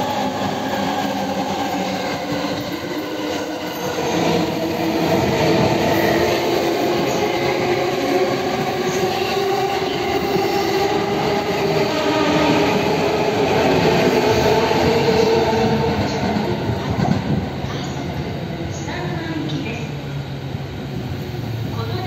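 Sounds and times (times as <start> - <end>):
train wheels rumbling on rails: 0.0 - 20.1.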